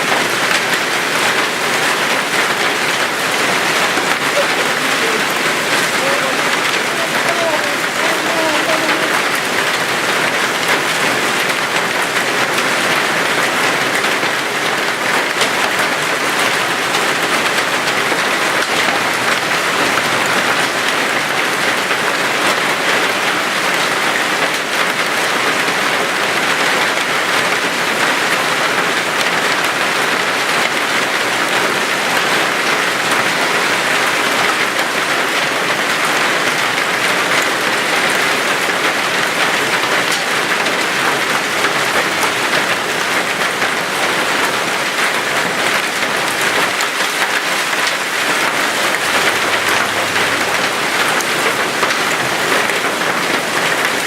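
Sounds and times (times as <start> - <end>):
heavy rain downpour: 0.0 - 54.0.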